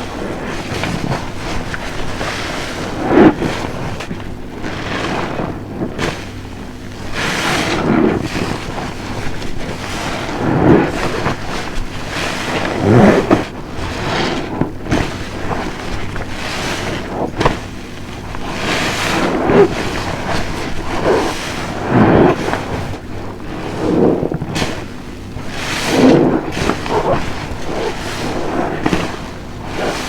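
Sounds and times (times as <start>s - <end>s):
soapy sponge squelching: 0.0s - 30.0s.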